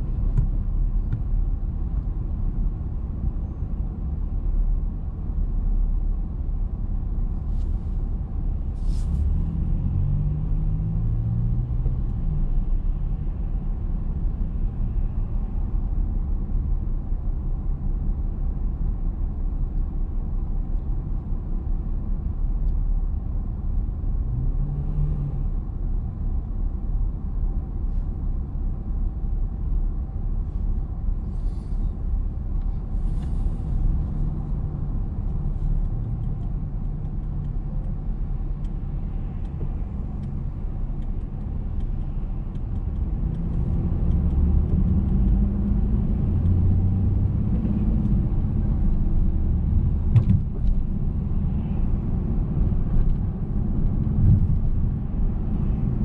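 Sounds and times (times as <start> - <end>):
idling traffic rumble: 0.0 - 56.0.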